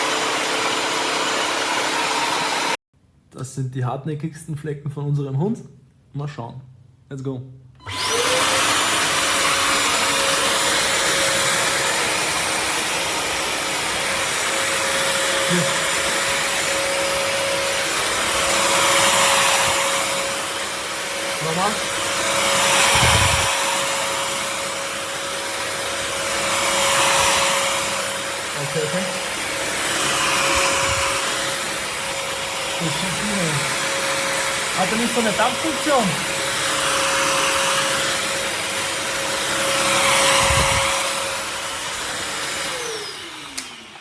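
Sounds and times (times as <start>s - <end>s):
floor cleaner suction rushing: 0.0s - 2.8s, 7.8s - 44.0s
motor whine: 7.8s - 44.0s.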